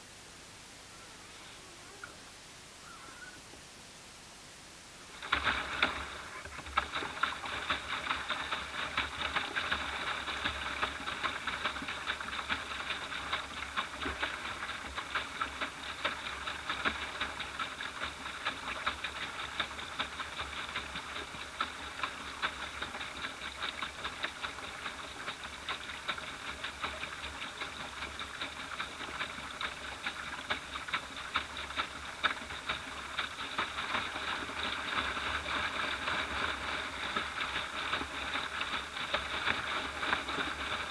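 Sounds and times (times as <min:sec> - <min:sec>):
boat motor clattering: 0:05.1 - 0:40.9.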